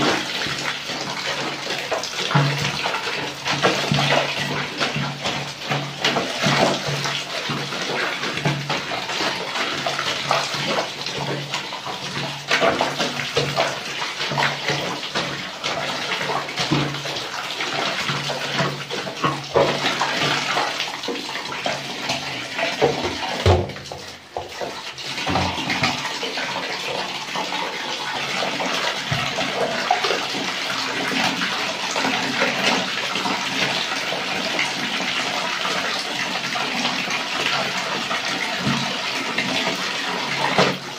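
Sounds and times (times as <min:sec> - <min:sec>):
laundry scrubbed by hand: 0:00.0 - 0:40.9
water pouring into basin: 0:00.0 - 0:40.9
water sloshing in plastic basin: 0:00.0 - 0:40.9.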